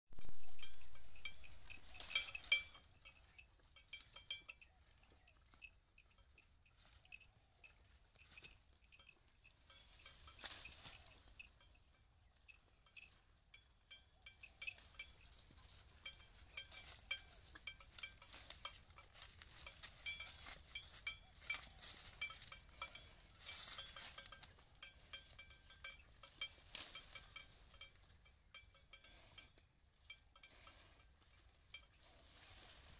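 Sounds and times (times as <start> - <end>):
light clinking: 0.2 - 32.9.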